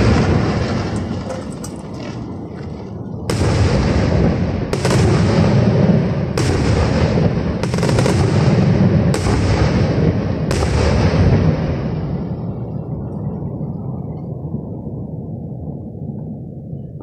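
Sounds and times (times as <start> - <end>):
rumble of echoing detonations: 0.0 - 17.0.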